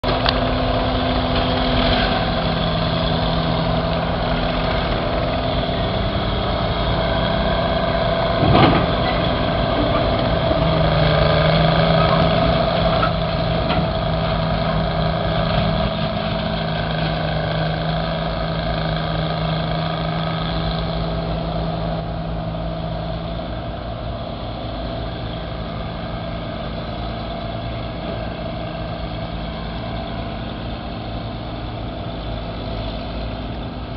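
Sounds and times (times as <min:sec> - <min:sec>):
backhoe engines running: 0:00.0 - 0:33.9.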